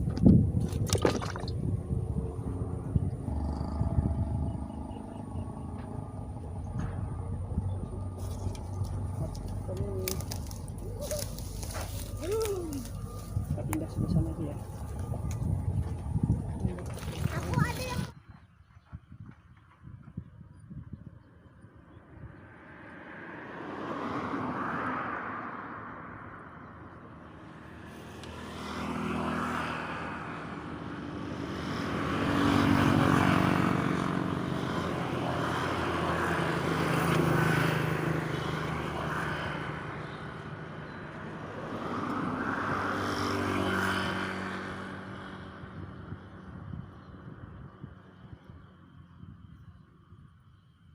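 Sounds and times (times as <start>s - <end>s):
motor vehicles passing: 0.0s - 19.2s, 21.0s - 50.8s.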